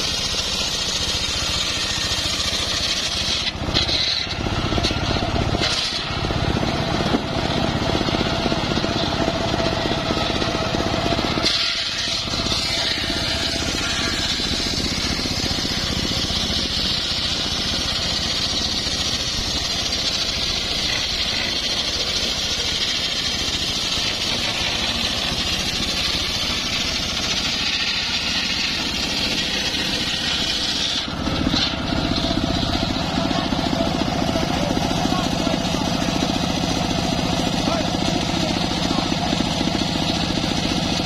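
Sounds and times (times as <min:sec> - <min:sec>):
circular saw blade cutting wood: 0:00.0 - 0:41.0
engine running: 0:00.0 - 0:41.0.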